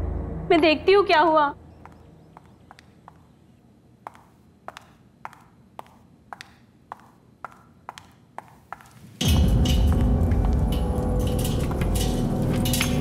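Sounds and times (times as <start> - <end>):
footsteps on tiled floor: 1.3 - 13.0.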